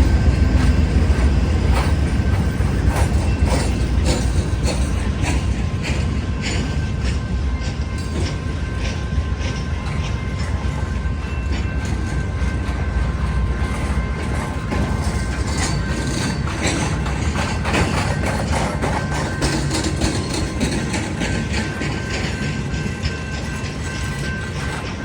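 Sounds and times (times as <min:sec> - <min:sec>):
train rumbling past: 0:00.0 - 0:25.0
wheels clacking and rattling: 0:00.0 - 0:25.0.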